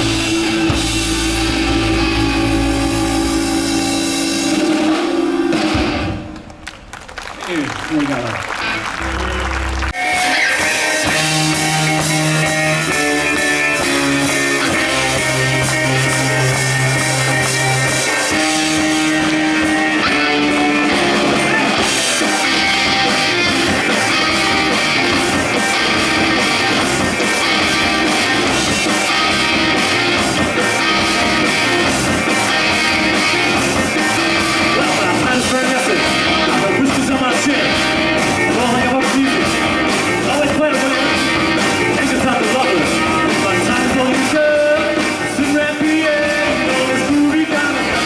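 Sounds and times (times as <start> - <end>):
rock band guitar and drums: 0.0 - 48.0.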